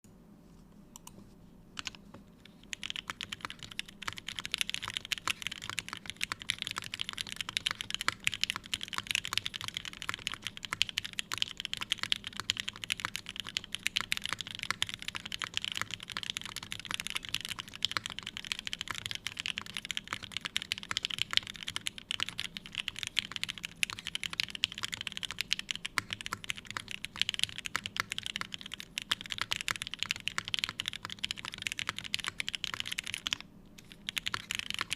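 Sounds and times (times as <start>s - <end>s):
mechanical keyboard typing: 1.8s - 34.9s.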